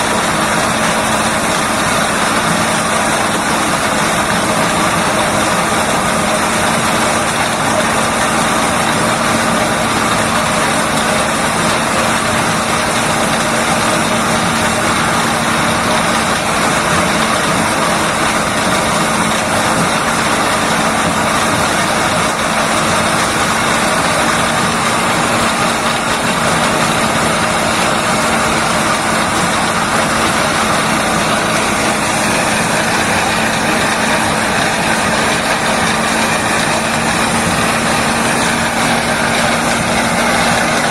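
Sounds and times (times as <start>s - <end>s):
machine droning: 0.0s - 40.9s.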